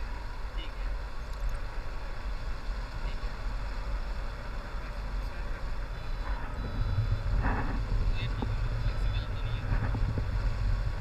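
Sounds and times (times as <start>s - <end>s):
wind rushing over microphone: 1.6s - 11.0s.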